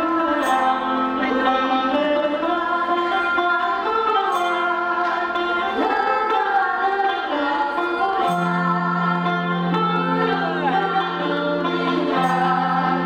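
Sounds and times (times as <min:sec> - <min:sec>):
acoustic guitar: 0:00.0 - 0:13.0
plucked lute: 0:00.0 - 0:13.0
woman singing: 0:00.0 - 0:13.0.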